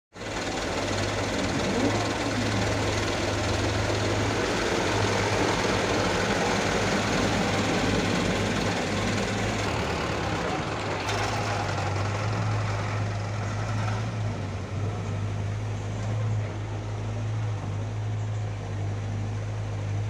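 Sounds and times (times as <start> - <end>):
heavy diesel engine running: 0.1 - 20.0.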